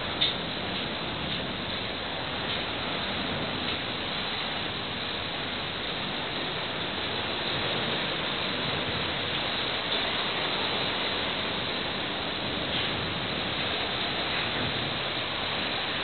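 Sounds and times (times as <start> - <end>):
sea rushing: 0.0 - 16.0.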